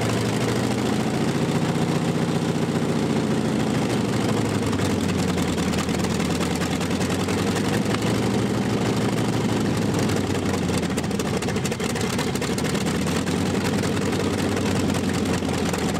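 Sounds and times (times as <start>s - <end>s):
tractor engine idling: 0.0s - 15.9s.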